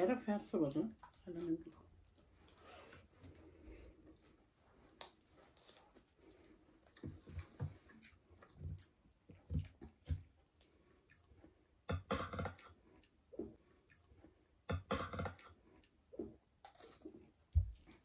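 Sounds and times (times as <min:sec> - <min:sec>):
chewing food: 0:00.4 - 0:04.3, 0:04.9 - 0:18.0.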